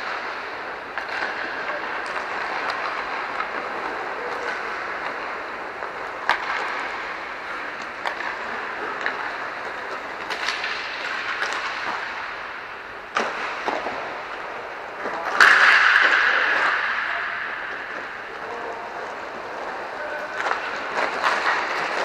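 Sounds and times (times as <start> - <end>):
skate wheels rolling hiss: 0.0 - 22.0
sticks striking puck: 0.0 - 22.0.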